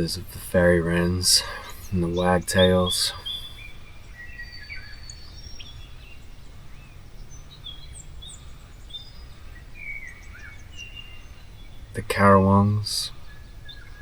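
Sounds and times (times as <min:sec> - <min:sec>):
steady low rumble: 0:00.0 - 0:04.1, 0:05.4 - 0:13.8
wild birds whistling and chirping: 0:00.0 - 0:14.0.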